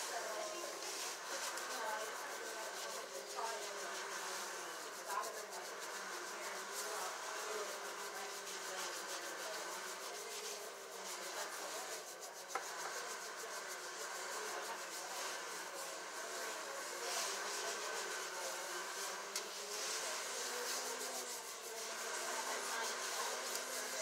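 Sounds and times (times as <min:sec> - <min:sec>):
fingers scrubbing hair: 0:00.0 - 0:24.0.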